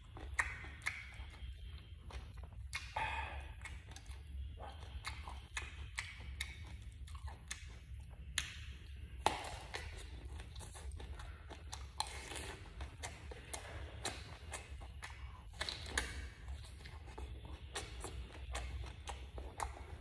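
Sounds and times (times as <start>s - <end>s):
person chewing with mouth smacks: 0.0s - 20.0s
steady low hum: 0.0s - 20.0s.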